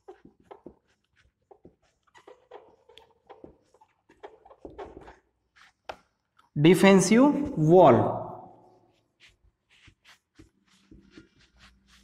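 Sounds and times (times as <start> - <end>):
marker pen on whiteboard: 0.0 - 6.6, 7.4 - 12.0.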